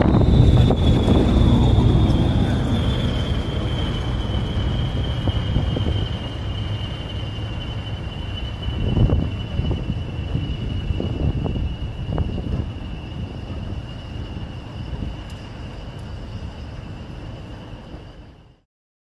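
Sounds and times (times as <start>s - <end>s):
turbocharger whistling: 0.0s - 18.5s
locomotive engine rumble: 0.0s - 18.6s.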